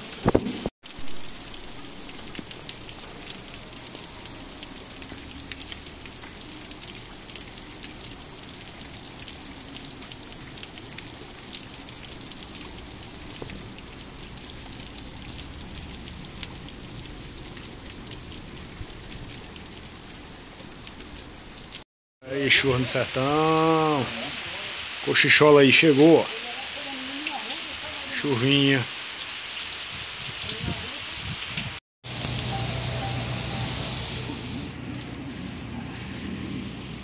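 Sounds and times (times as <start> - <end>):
rain on wet pavement: 0.0 - 37.0.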